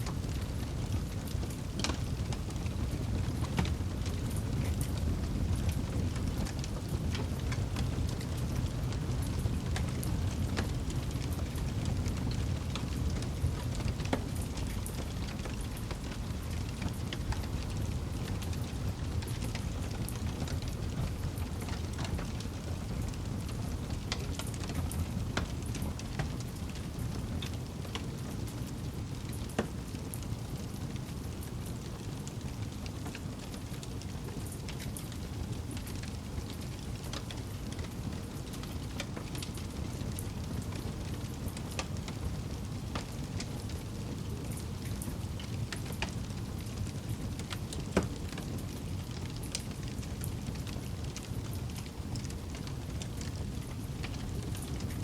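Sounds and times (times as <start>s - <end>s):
campfire crackling and popping: 0.0s - 55.0s
low fire rumble: 0.0s - 55.0s.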